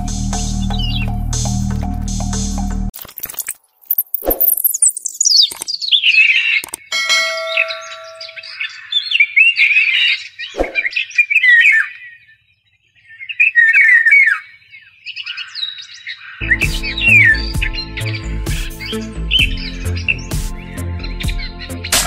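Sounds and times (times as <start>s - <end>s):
birds chirping: 0.0s - 2.8s, 3.7s - 22.0s.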